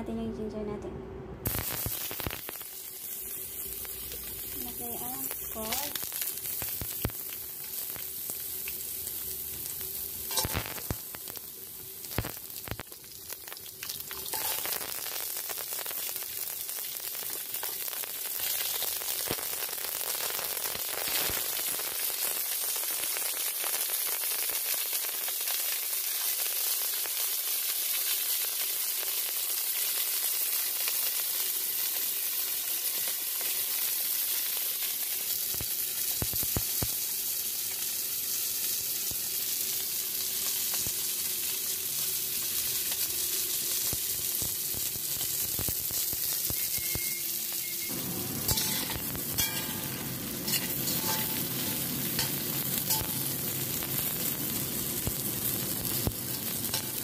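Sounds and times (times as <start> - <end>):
food sizzling in hot oil: 1.5 - 57.0.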